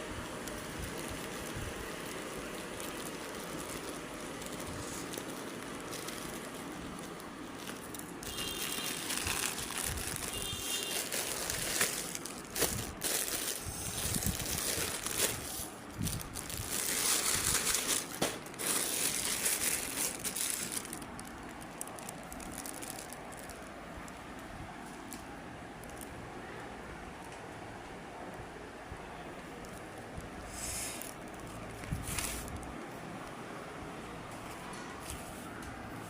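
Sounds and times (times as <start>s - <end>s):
plastic packaging crinkling: 0.0s - 26.2s, 29.4s - 33.3s.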